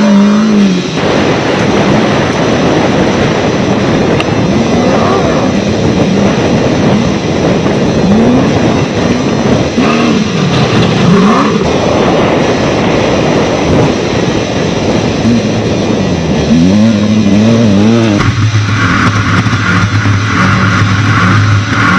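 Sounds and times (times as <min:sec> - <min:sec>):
loud rushing noise: 0:00.0 - 0:21.9
race vehicle engines revving: 0:00.0 - 0:21.9.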